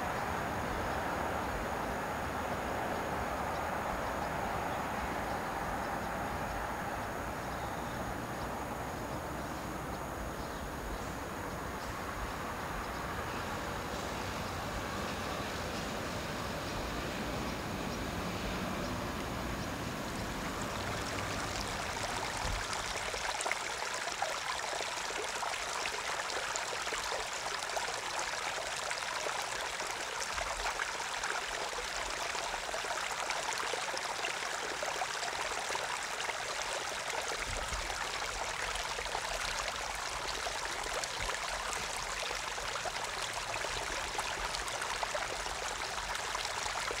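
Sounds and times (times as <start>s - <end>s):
river water flowing: 0.0s - 47.0s.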